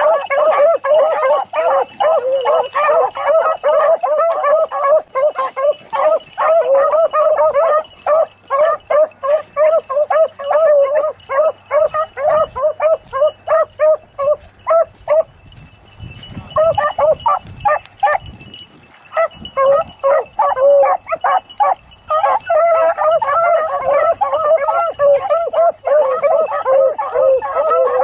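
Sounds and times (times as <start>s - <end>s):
dogs baying and yelping: 0.0s - 28.0s.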